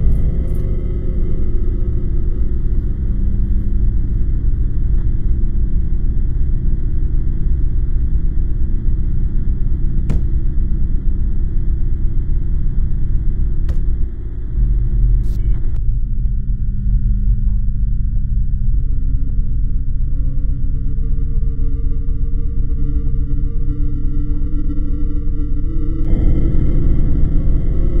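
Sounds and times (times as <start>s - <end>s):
low ominous drone: 0.0s - 28.0s.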